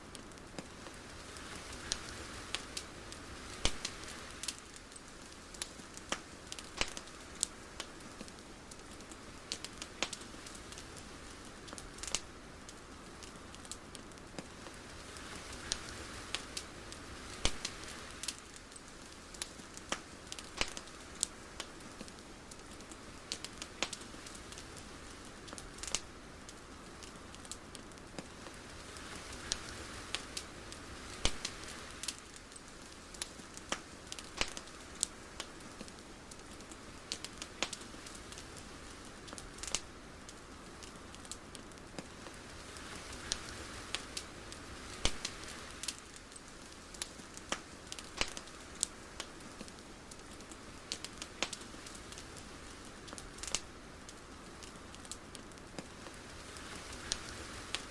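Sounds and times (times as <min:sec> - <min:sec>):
crackling clicks and pops: 0:00.0 - 0:57.9
faint steady hiss: 0:00.0 - 0:57.9.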